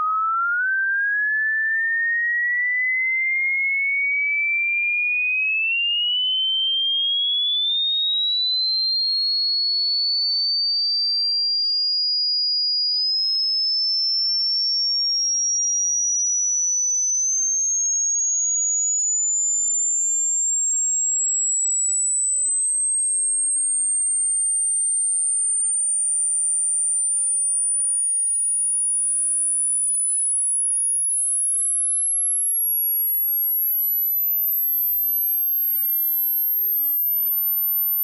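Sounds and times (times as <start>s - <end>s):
rising sine test tone: 0.0s - 38.0s.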